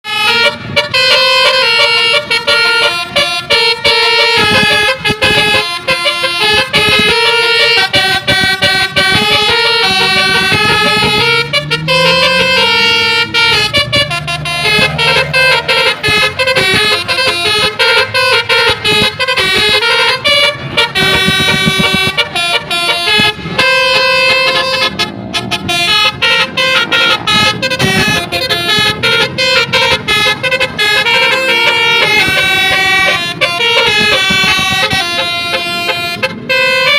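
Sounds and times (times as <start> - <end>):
multi-tone air horn melody: 0.0 - 36.9.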